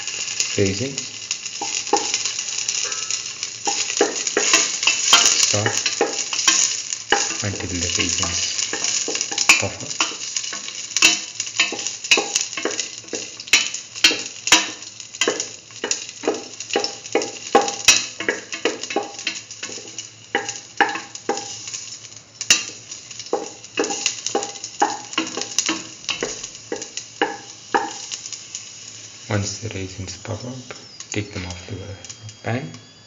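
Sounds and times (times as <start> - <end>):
raisins sizzling in hot fat: 0.0 - 33.0.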